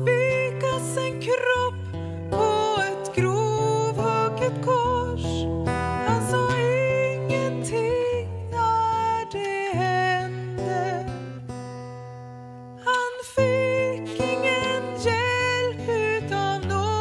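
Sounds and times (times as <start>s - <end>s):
woman singing: 0.0s - 11.4s, 12.8s - 17.0s
acoustic guitar: 0.0s - 17.0s.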